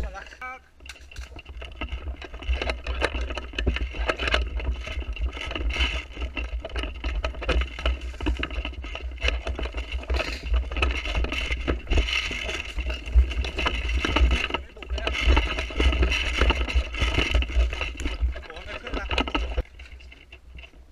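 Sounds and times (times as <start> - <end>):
gun and gear rattling: 0.0 - 20.9.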